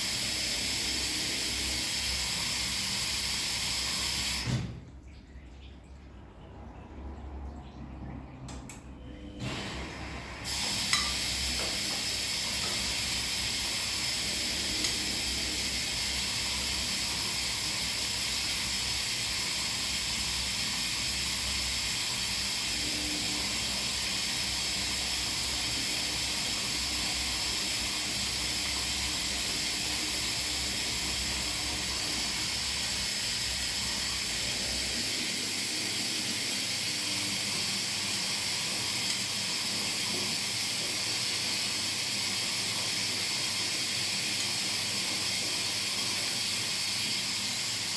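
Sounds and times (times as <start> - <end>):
washing machine hiss: 0.0 - 4.8, 9.4 - 47.9.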